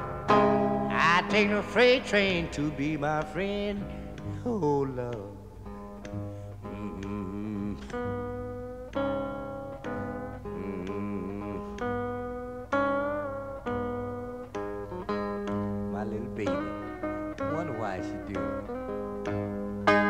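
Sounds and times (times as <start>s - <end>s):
acoustic blues guitar picking: 0.0s - 20.0s.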